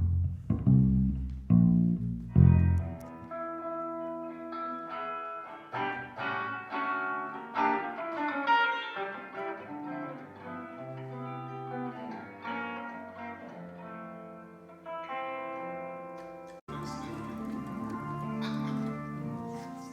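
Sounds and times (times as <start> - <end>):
guitar playing chords: 0.0 - 19.9.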